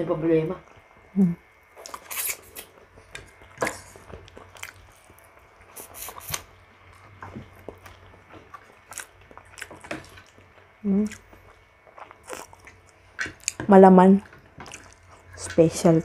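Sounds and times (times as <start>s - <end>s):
close-up chewing: 0.6s - 16.0s.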